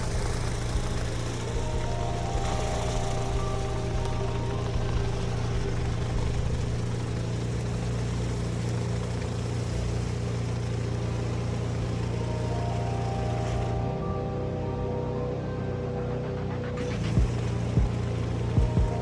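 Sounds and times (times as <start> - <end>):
pressure washer engine hum: 0.0 - 19.0.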